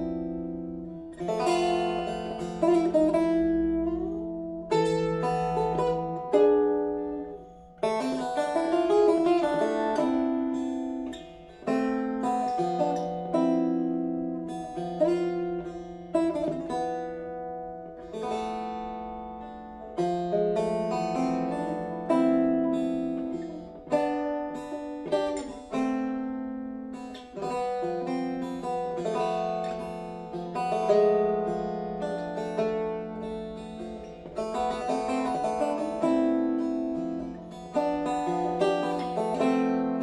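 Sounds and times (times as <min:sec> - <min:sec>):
fingerstyle plucked string instrument: 0:00.0 - 0:40.0.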